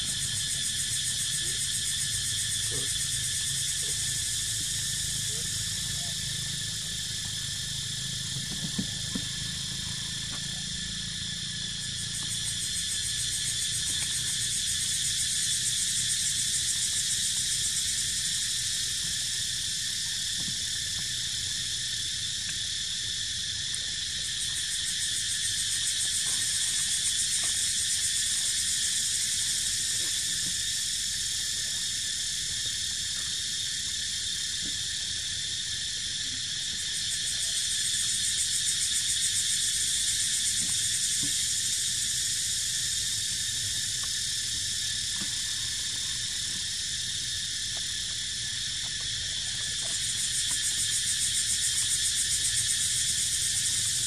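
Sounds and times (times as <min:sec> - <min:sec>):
high-pitched insect chorus droning: 0:00.0 - 0:54.0.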